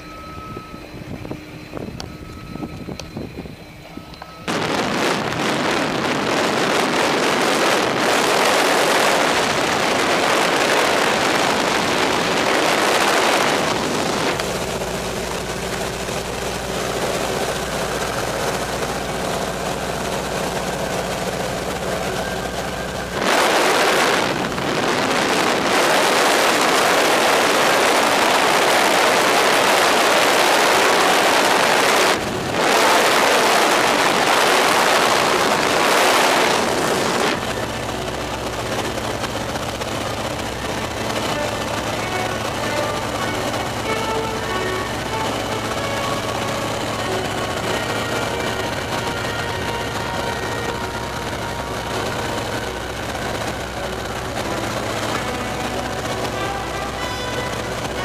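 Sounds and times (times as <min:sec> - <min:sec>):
plane engine running at high power: 0:00.0 - 0:58.0
wind rush on microphone: 0:00.1 - 0:58.0.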